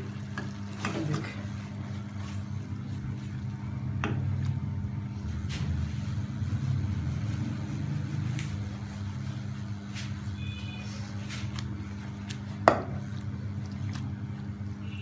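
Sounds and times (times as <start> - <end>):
gas stove burner humming: 0.0 - 15.0.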